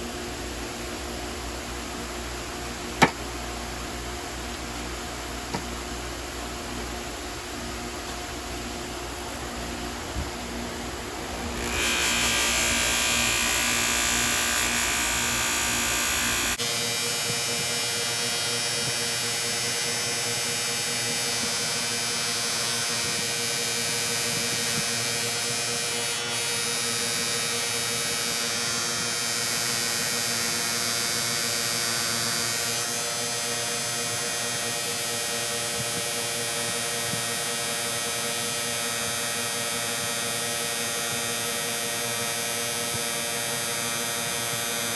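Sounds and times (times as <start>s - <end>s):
small electric motor humming: 6.4s - 44.9s.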